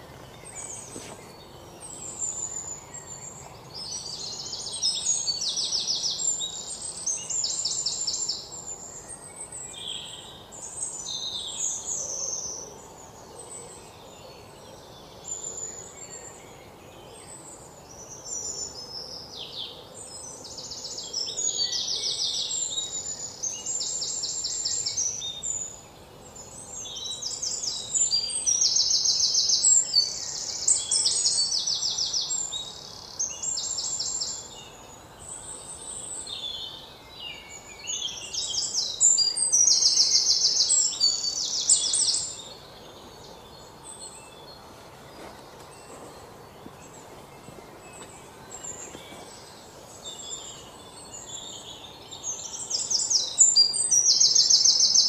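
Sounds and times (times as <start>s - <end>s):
faint background hiss: 0.0s - 55.0s
songbirds trilling: 0.0s - 55.0s.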